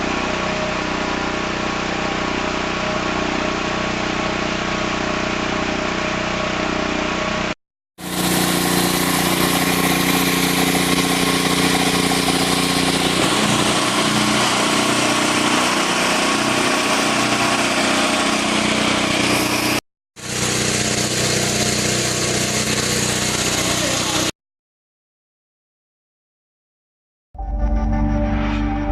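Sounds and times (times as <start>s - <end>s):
welding generator engine running: 0.0s - 24.3s.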